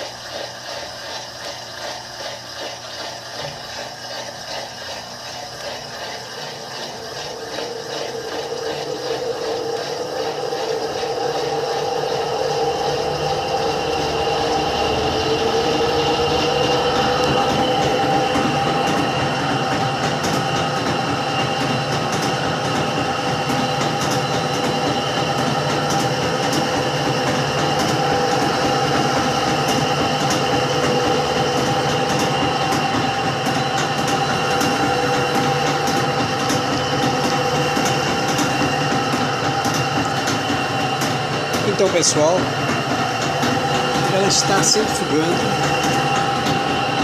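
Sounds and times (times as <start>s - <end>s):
washing machine spin whine: 0.0s - 47.0s.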